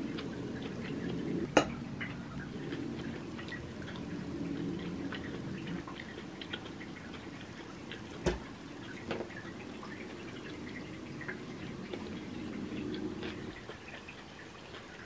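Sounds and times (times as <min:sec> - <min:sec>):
chewing with wet mouth clicks: 0:00.0 - 0:08.2, 0:08.8 - 0:15.0
low background noise: 0:00.0 - 0:15.0.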